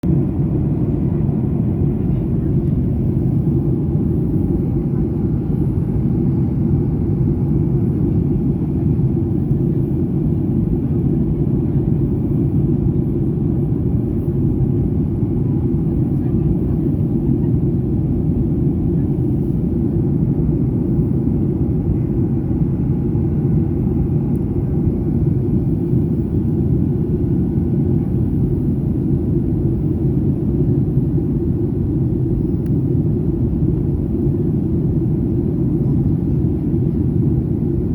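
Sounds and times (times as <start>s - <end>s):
airplane cabin drone: 0.0s - 37.9s.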